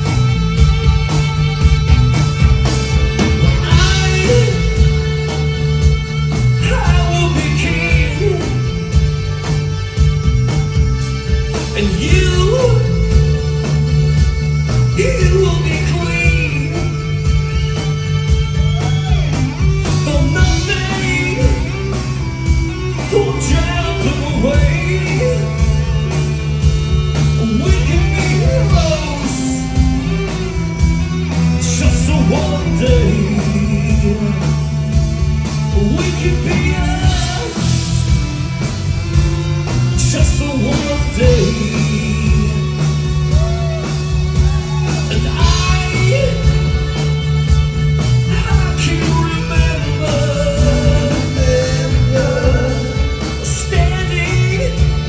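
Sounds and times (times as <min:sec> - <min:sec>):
rock song with lead vocal: 0:00.0 - 0:55.0.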